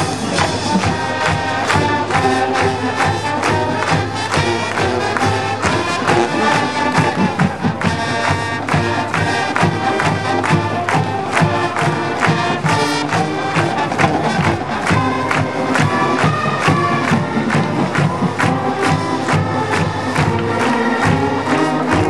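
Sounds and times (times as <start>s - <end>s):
marching band playing: 0.0s - 22.0s
steady drum beat: 0.0s - 22.0s.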